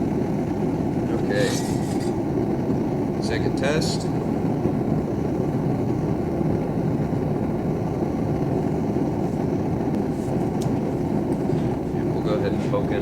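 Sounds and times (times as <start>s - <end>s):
forge burner rushing: 0.0s - 13.0s.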